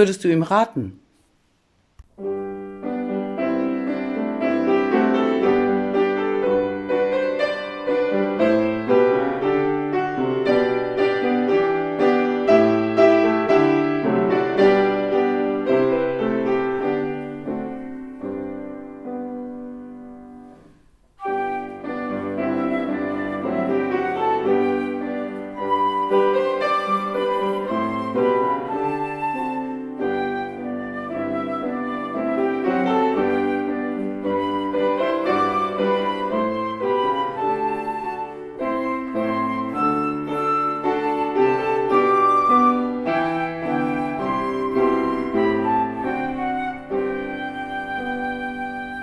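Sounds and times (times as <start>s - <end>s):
calm piano music: 2.1s - 49.0s.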